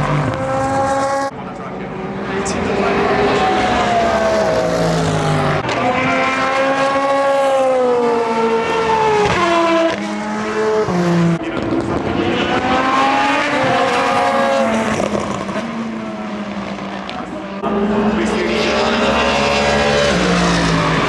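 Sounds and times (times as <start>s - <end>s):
race cars passing at speed: 0.0s - 21.0s.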